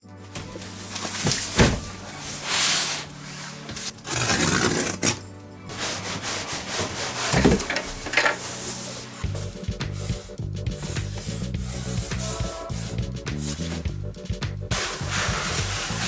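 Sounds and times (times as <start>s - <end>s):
background music: 0.0s - 16.0s
packaging rubbing and sliding: 0.2s - 14.0s, 14.7s - 16.0s.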